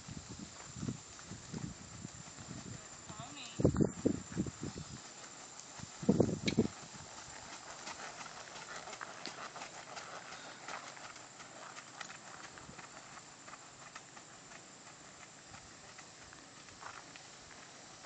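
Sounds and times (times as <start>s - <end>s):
horse hooves on gravel: 0.0s - 18.0s.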